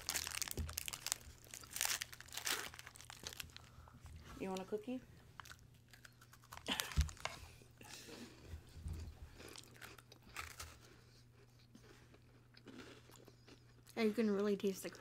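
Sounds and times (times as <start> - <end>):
biscuits crunching being chewed: 0.0 - 4.6, 5.3 - 15.0.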